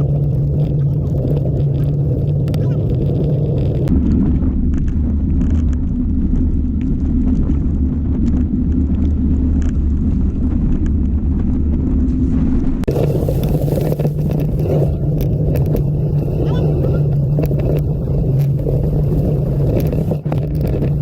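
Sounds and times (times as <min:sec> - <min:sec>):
bike riding noise: 0:00.0 - 0:21.0
wind rumble on microphone: 0:00.0 - 0:21.0.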